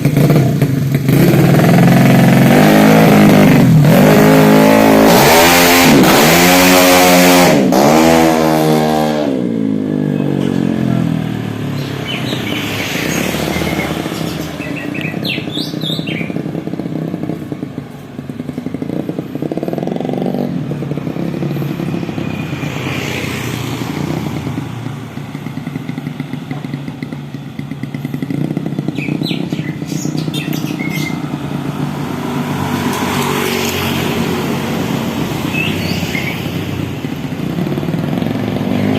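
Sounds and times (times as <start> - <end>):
scooter engine revving and idling: 0.0 - 38.9.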